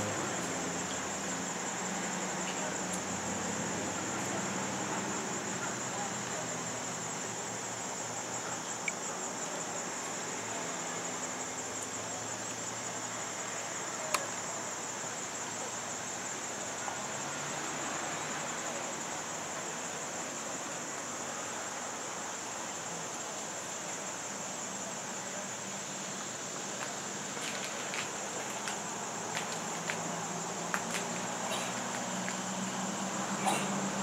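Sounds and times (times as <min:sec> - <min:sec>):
background hiss: 0:00.0 - 0:34.0
insect chorus trilling: 0:00.0 - 0:34.0.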